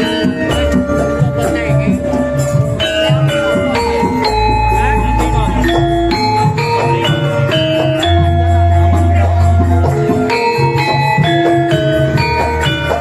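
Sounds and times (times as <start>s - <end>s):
gamelan metal keys melody: 0.0s - 13.0s.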